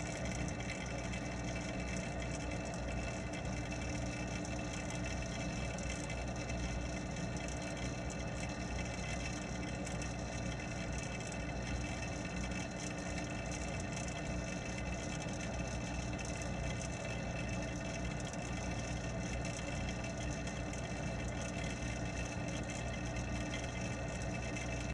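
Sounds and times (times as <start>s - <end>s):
underwater water pump hum and hiss: 0.0s - 24.9s.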